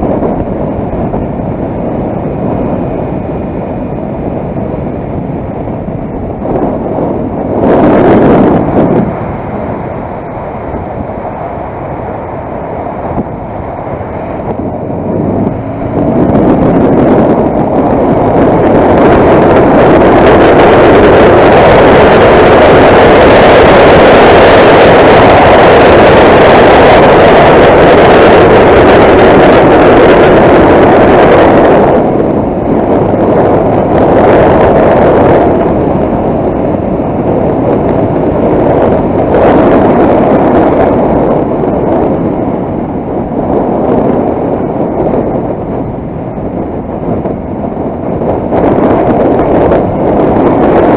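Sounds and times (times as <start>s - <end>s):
motorcycle engine: 0.0s - 50.9s
wind rush over microphone: 0.0s - 50.9s.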